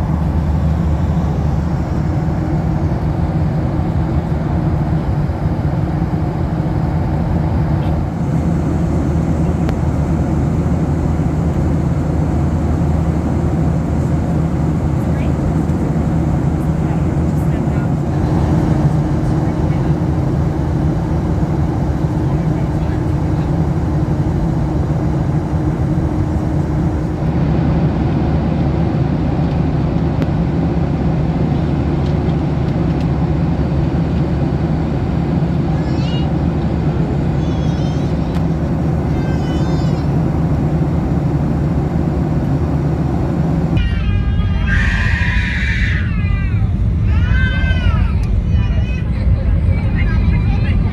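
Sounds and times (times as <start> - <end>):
higher hum: 0.0 - 27.4, 33.9 - 50.9
airplane cabin engine rumble: 0.0 - 50.9.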